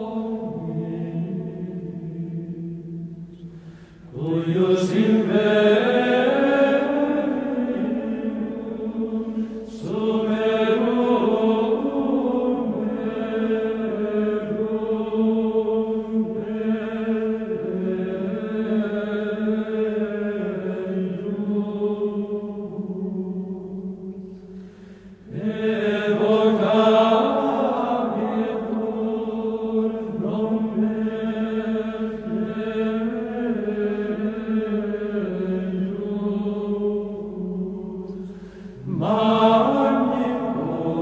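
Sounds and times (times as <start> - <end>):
low sustained chanting: 0.0 - 41.0.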